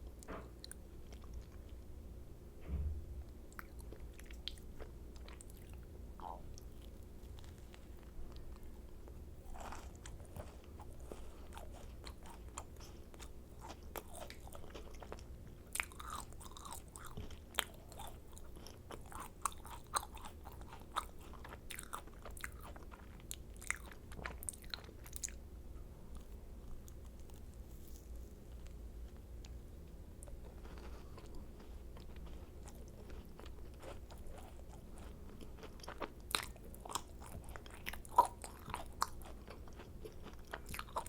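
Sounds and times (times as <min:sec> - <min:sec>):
crunchy chewing: 0:03.5 - 0:25.4, 0:26.1 - 0:41.0.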